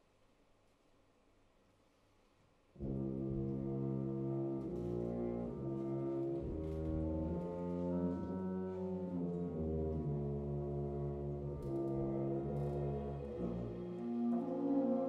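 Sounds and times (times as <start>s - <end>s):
wind band brass chords: 2.8s - 15.0s.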